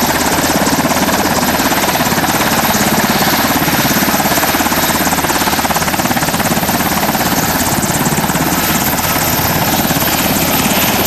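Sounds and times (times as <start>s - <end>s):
helicopter rotor pulsing: 0.0s - 11.0s.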